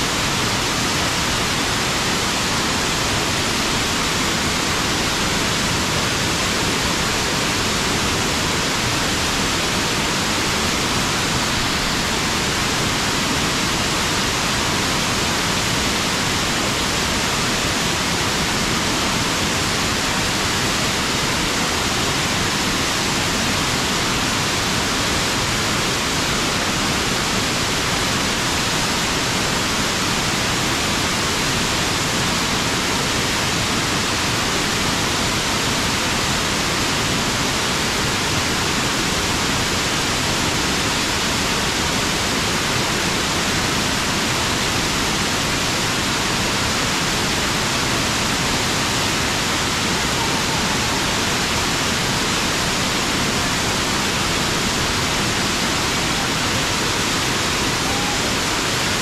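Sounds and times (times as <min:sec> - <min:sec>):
waterfall roaring: 0:00.0 - 0:59.0.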